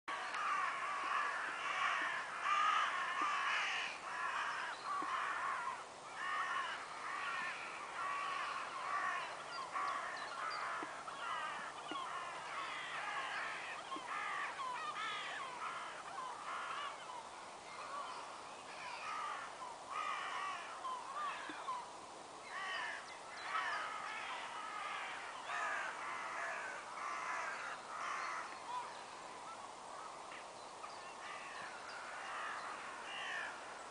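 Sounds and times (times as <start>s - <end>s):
crows cawing: 0.1s - 17.1s, 17.8s - 21.8s, 22.5s - 28.9s, 31.2s - 33.7s.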